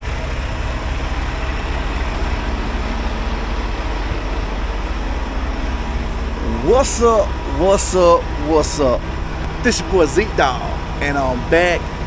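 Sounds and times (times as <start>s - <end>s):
truck engine rumbling: 0.0s - 12.0s
faint steady hum: 0.1s - 12.0s.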